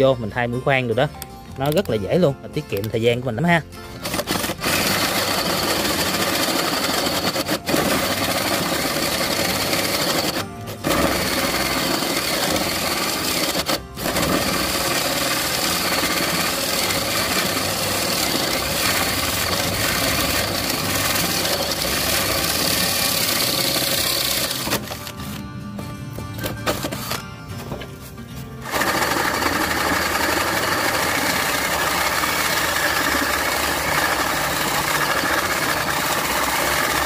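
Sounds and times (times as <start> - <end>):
drill with hole saw cutting wood: 4.0 - 25.2, 26.6 - 27.2, 28.6 - 37.0.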